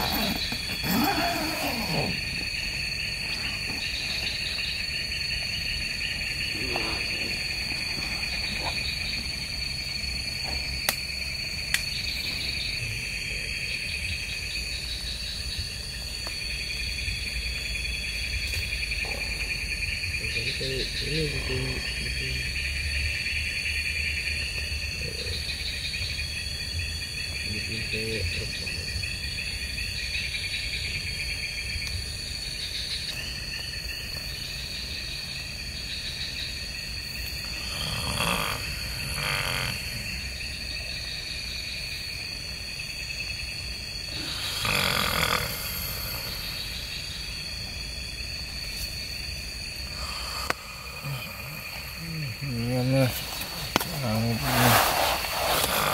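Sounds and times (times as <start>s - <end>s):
crickets trilling: 0.0s - 55.9s.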